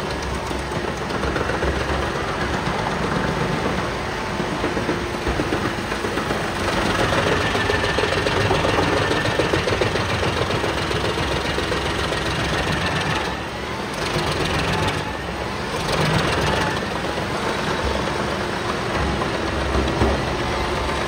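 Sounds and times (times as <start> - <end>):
engine drone: 0.0 - 21.0
wood chipper grinding clatter: 0.0 - 21.0.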